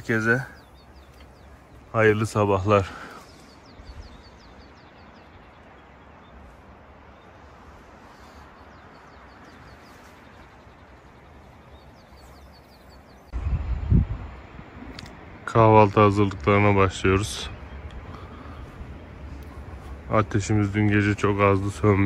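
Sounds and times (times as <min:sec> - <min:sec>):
outdoor hiss with low rumble: 0:00.0 - 0:22.0
small birds chirping: 0:00.0 - 0:22.0.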